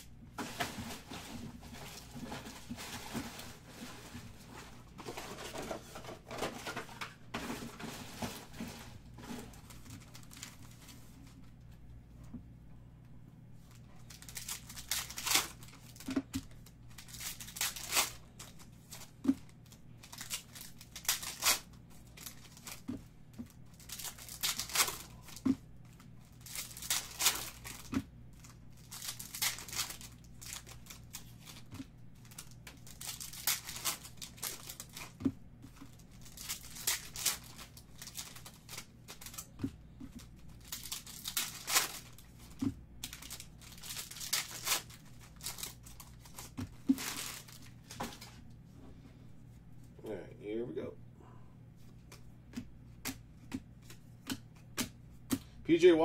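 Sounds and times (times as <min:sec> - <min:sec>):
low steady hum: 0:00.0 - 0:56.0
foil packs crinkling and tearing: 0:00.3 - 0:11.0, 0:13.7 - 0:48.4.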